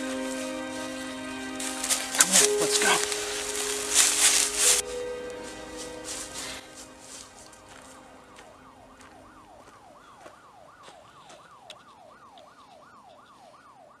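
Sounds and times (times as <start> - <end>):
siren yelping: 2.1 - 14.0.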